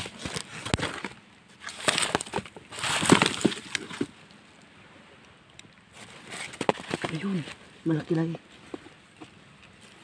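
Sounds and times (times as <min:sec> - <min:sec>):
coconut husks rustling and crackling: 0:00.0 - 0:10.0.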